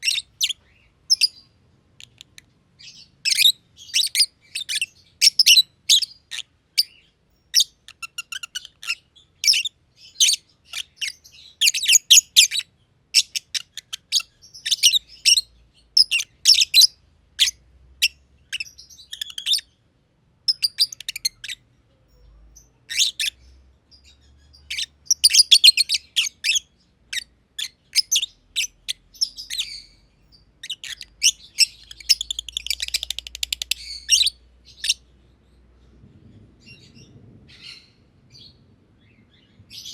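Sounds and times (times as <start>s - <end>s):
lovebirds chirping: 0.0s - 19.8s, 20.4s - 39.9s.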